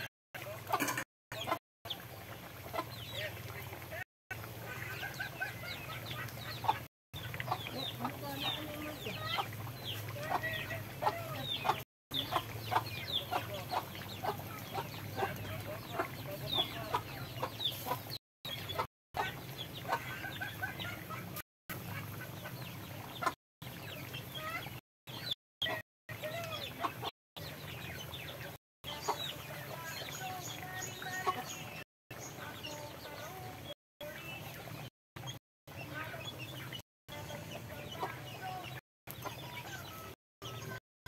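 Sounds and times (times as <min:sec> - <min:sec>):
chickens clucking: 0:00.0 - 0:40.8.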